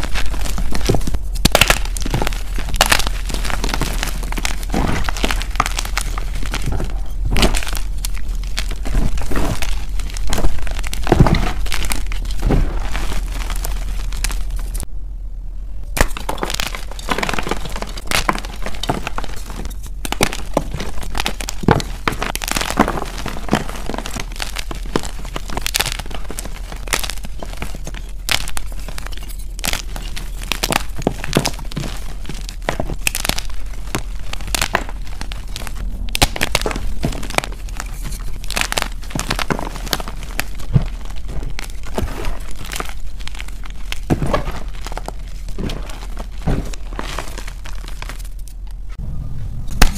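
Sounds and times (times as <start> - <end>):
chalk blocks cracking and crunching: 0.0 - 14.9, 16.0 - 48.9
powdery crumbling: 0.0 - 14.9, 16.0 - 48.9.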